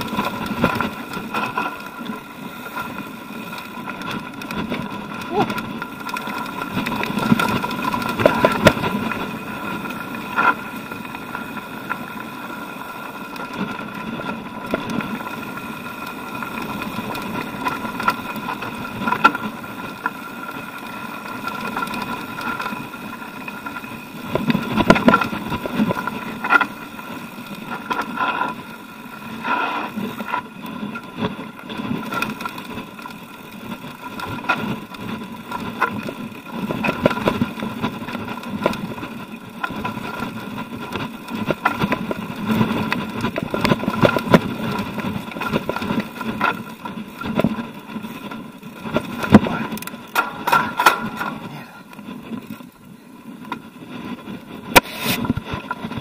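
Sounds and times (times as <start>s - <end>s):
bike rattling over bumps: 0.0s - 56.0s
tyres crunching on gravel: 0.0s - 56.0s.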